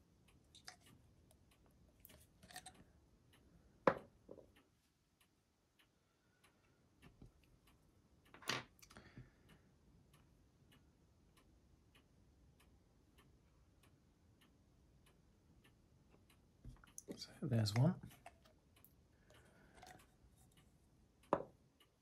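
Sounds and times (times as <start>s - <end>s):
clock ticking: 2.8s - 8.3s, 9.2s - 22.0s.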